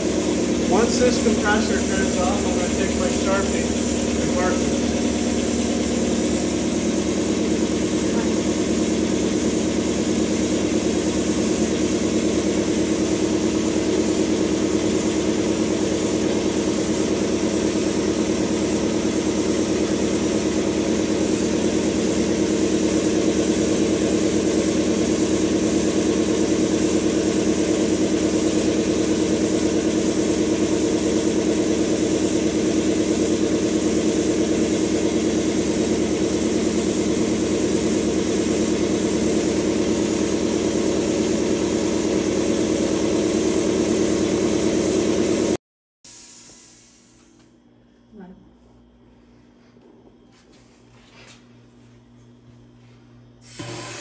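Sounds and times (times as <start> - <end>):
electric air compressor running: 0.0 - 47.7, 52.8 - 54.0.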